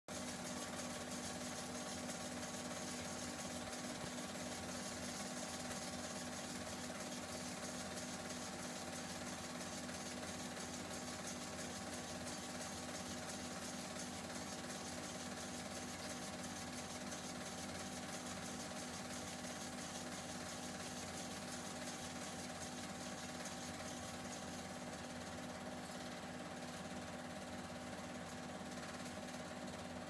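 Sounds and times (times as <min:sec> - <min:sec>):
film projector clatter: 0:00.1 - 0:30.0.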